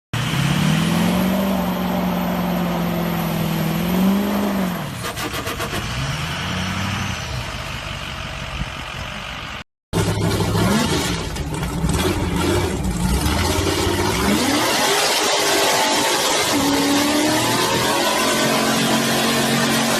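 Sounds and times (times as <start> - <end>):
second truck engine revving: 0.2 - 19.9
truck engine revving: 0.2 - 19.9.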